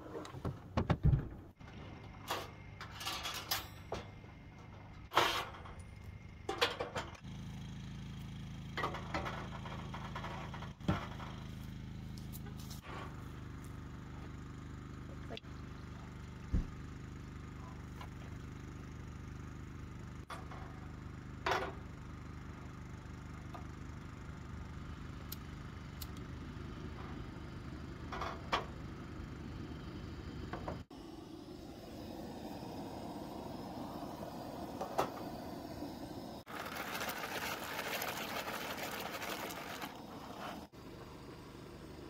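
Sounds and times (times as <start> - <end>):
generator humming: 1.5 - 42.0.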